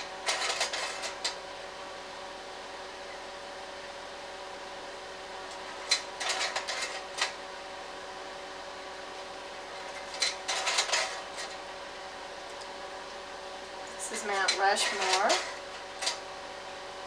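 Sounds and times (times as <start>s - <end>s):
projector fan humming: 0.0s - 17.0s.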